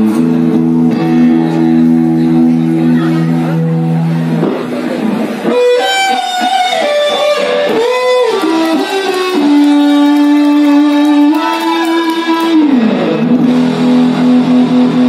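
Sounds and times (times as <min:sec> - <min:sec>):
electric guitar lead phrase: 0:00.0 - 0:15.0.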